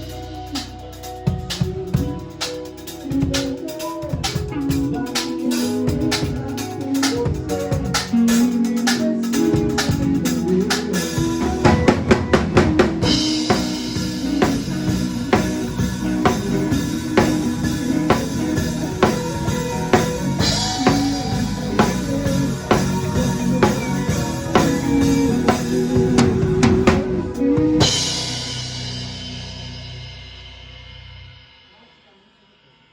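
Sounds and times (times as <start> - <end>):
drum fill: 0.0 - 30.4
live band playing: 0.0 - 30.5.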